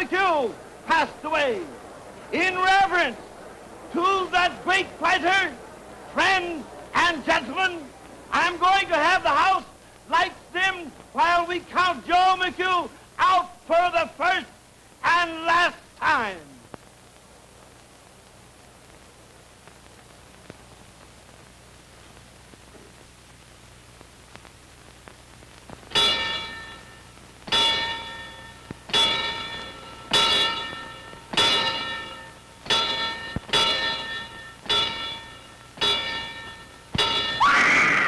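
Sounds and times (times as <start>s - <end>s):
faint soundtrack hiss: 0.0s - 38.0s.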